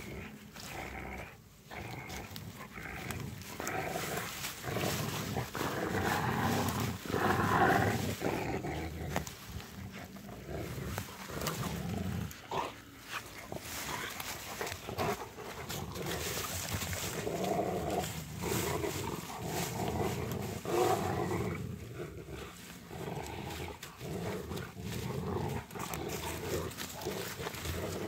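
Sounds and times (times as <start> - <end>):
dogs growling in play: 0.0 - 28.0.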